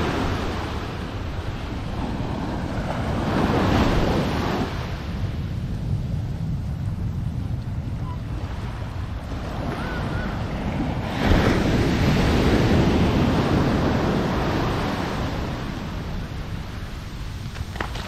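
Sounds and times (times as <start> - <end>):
waves breaking on beach: 0.0 - 5.9, 7.8 - 18.0
wind noise on microphone: 0.0 - 18.0.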